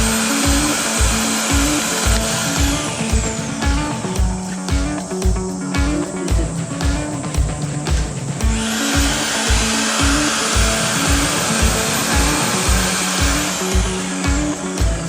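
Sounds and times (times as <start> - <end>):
electronic music: 0.0 - 15.0
kick drum: 0.0 - 15.0
noise sweep: 0.0 - 15.0.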